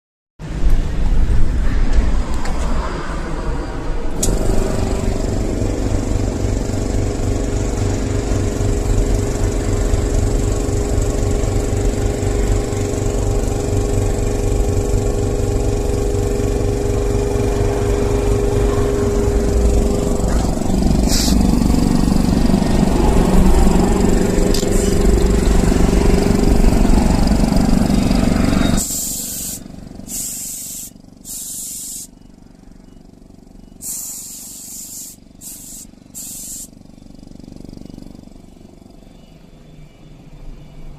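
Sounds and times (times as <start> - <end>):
air compressor running: 4.1 - 39.6.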